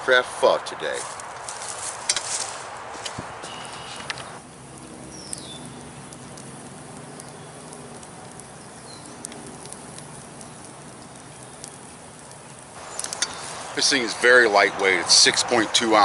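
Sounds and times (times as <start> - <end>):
campfire flames hissing: 0.0 - 16.0
fire crackles and pops: 0.0 - 16.0.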